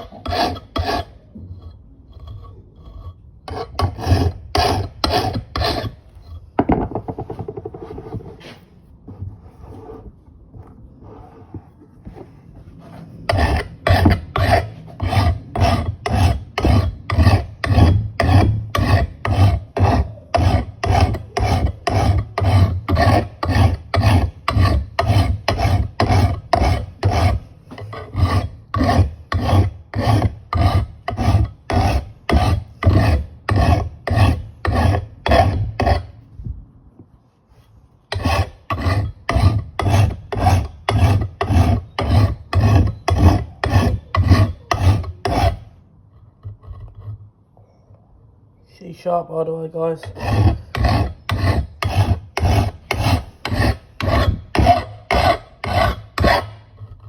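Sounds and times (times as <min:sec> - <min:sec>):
file rasping on axe head: 0:00.0 - 0:08.6, 0:12.7 - 0:36.2, 0:38.1 - 0:47.3, 0:49.9 - 0:57.0.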